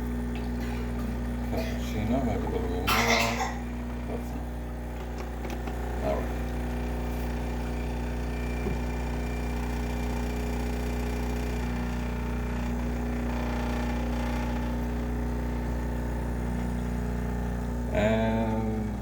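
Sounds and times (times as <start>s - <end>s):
espresso machine pump humming: 0.0s - 19.0s.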